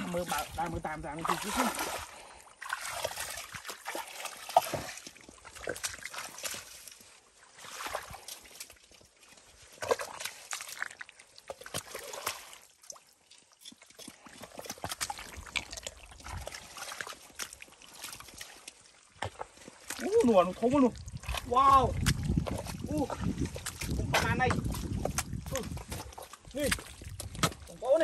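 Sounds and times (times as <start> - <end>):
footsteps wading through mud and water: 0.0 - 28.0.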